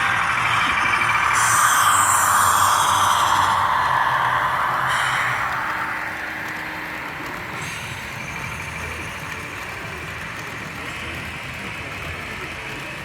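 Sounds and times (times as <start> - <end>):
model trains running: 0.0 - 13.0.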